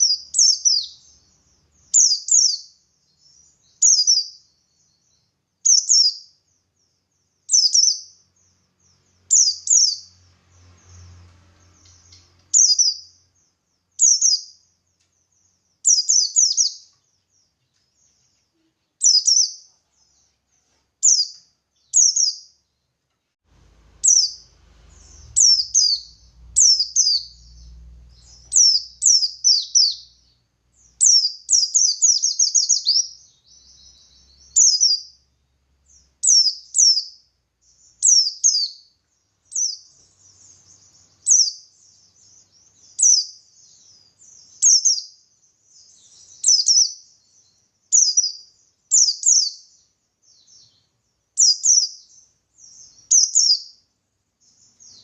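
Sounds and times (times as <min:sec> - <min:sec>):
bird chirping high phrases: 0:00.0 - 0:23.0, 0:23.7 - 0:55.0.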